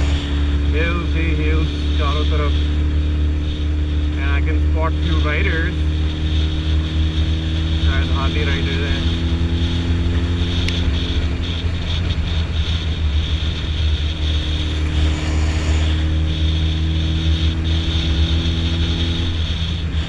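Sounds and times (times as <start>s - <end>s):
motorcycle engine drone: 0.0s - 20.0s
wind hiss: 0.0s - 20.0s.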